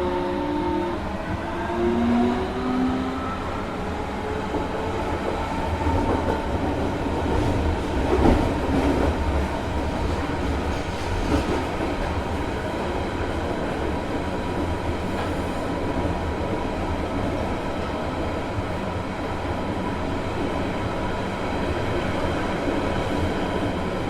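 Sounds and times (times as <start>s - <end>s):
train rumbling and rattling: 0.0s - 24.0s.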